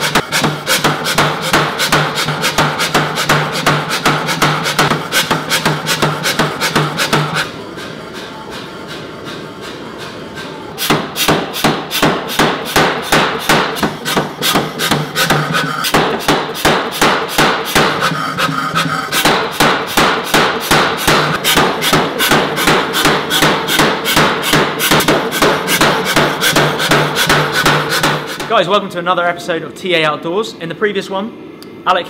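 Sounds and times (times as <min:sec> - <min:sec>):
power hammer pounding steel: 0:00.0 - 0:28.6.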